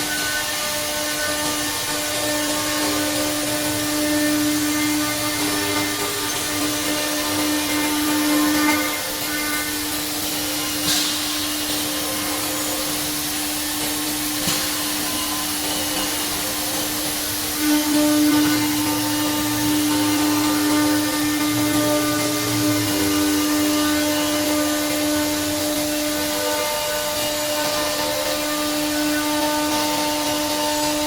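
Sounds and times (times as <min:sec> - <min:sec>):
machine hiss: 0:00.0 - 0:31.0
router spindle whining: 0:00.0 - 0:31.0.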